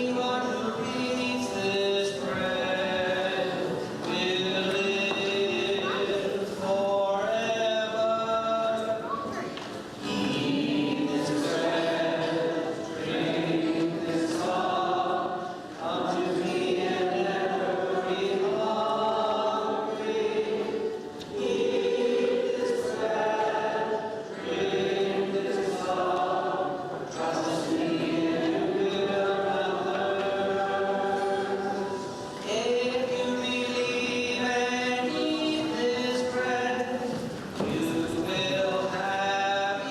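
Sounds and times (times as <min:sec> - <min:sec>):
group singing a hymn: 0:00.0 - 0:09.1, 0:09.9 - 0:39.9.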